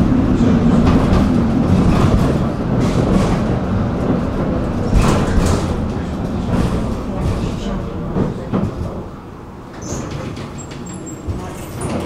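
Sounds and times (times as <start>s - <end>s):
tram rumbling on rails: 0.0s - 12.0s
sharp rail clacks: 0.7s - 12.0s.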